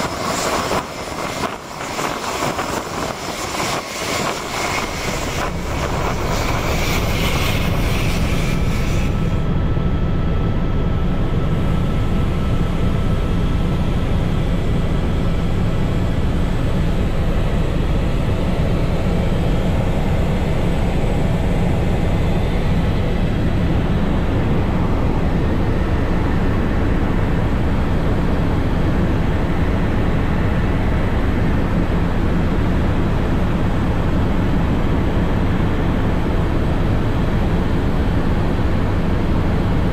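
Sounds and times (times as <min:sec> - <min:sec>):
helicopter rotor beat and whine: 0:00.0 - 0:39.9
helicopter rumble in flight: 0:00.0 - 0:39.9.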